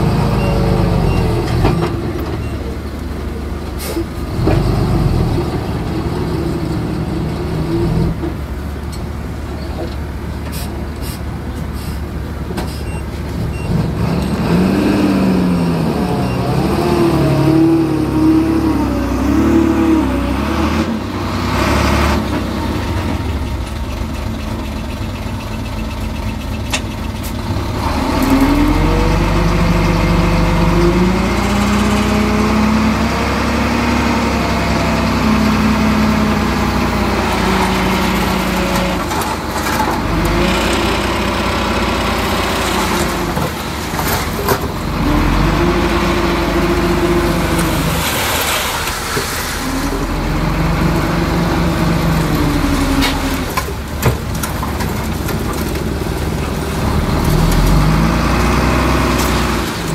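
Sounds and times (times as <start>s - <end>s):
heavy diesel engine working: 0.0s - 59.9s.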